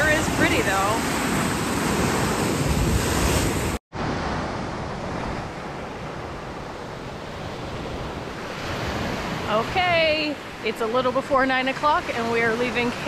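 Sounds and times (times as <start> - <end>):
strong wind: 0.0 - 13.0.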